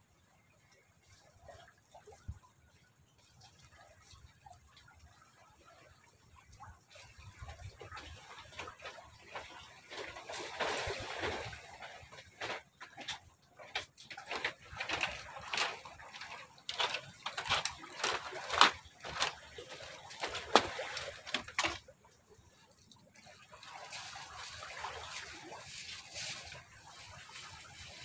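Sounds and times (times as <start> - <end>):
water splashing with knocks: 0.6 - 28.0.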